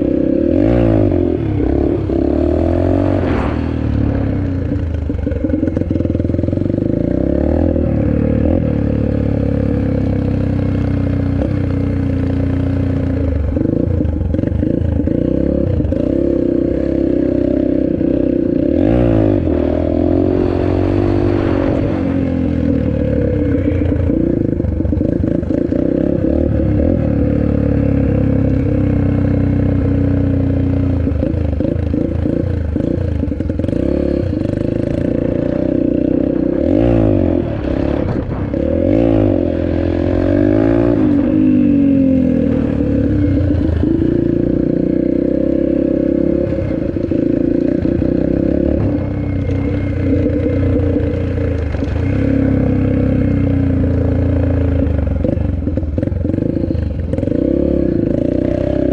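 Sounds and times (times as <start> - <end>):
dirt bike engine revving: 0.0 - 11.5, 12.4 - 30.2, 31.0 - 58.9.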